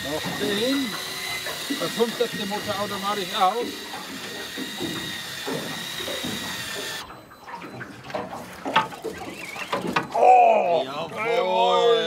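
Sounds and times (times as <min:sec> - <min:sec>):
electric fishing reel whine: 0:00.0 - 0:07.9, 0:08.6 - 0:10.6
water splashing and sloshing: 0:00.0 - 0:12.0.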